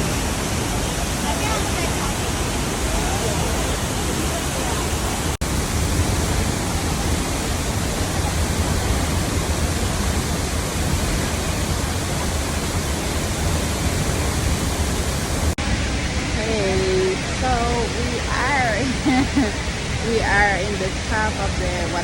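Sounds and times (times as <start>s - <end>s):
large waterfall rushing: 0.0s - 22.0s.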